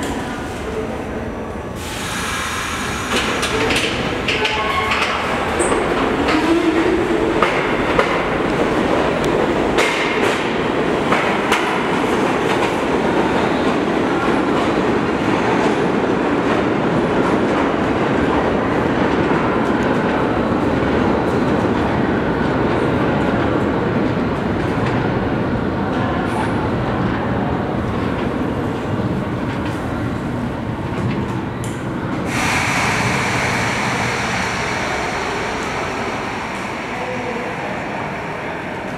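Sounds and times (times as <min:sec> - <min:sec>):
subway train pulling away: 0:00.0 - 0:38.9.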